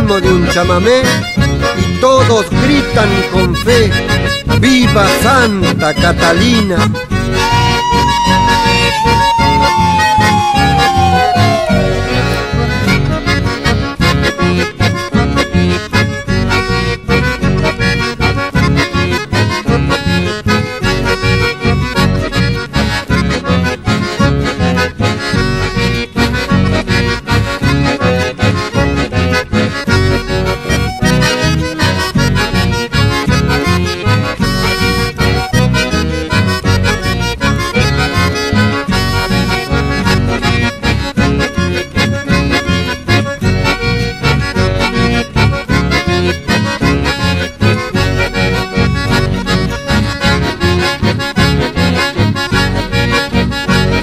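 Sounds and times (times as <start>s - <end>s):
accordion folk music with bass: 0.0s - 54.0s.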